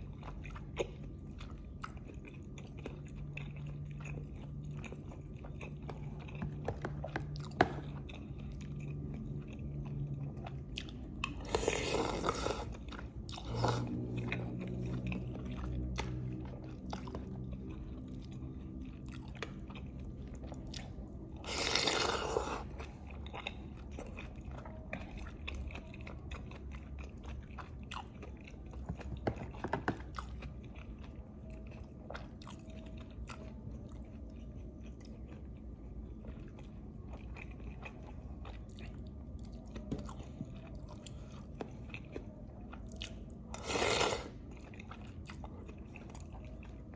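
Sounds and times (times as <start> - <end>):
chewing and biting: 0.0 - 46.9.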